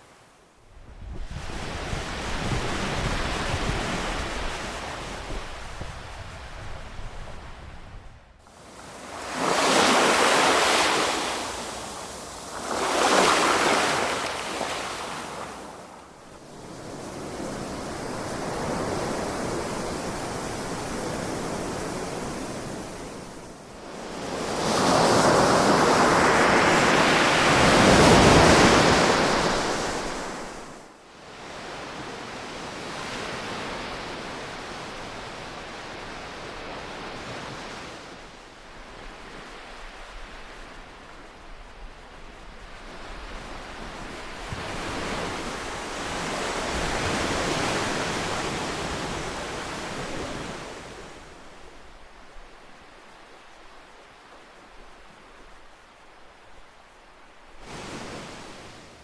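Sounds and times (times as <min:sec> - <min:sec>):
ocean waves breaking on shore: 0:01.0 - 0:59.0.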